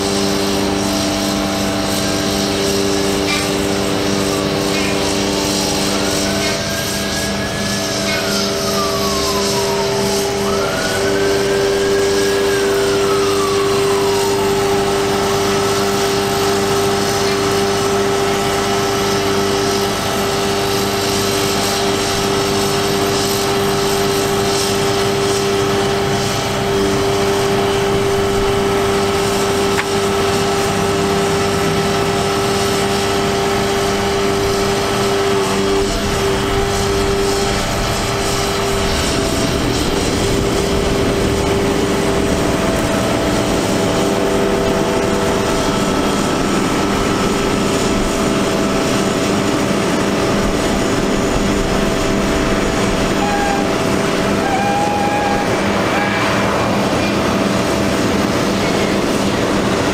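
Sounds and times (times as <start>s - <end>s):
hydraulic whine: 0.0s - 59.9s
truck engine and hydraulic pump: 0.0s - 59.9s.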